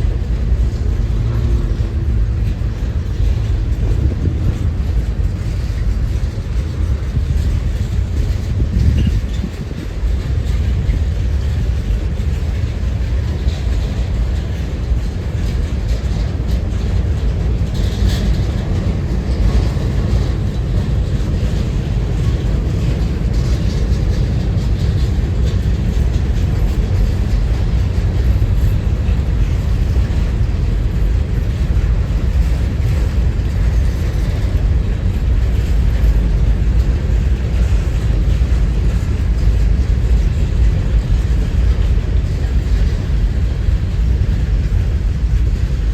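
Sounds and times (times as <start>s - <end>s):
train rolling on rails: 0.0s - 45.9s
wind buffeting microphone: 0.0s - 45.9s.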